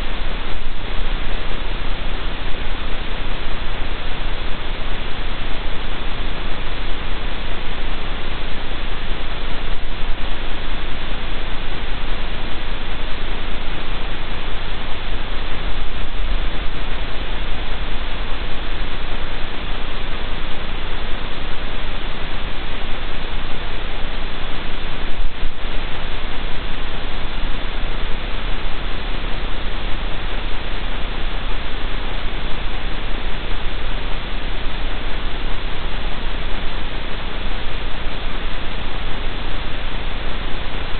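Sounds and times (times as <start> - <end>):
low electrical hum: 0.0 - 40.9
static hiss: 0.0 - 40.9.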